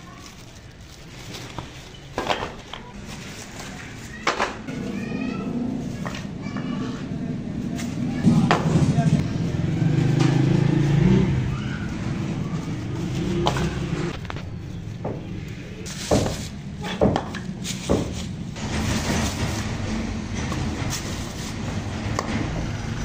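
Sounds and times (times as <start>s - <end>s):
plastic bags rustling: 0.0s - 6.3s, 10.1s - 23.0s.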